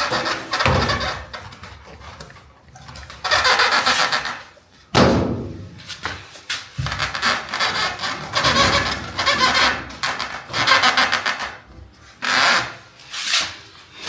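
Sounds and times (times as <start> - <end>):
rubbing and scraping: 0.0 - 14.0.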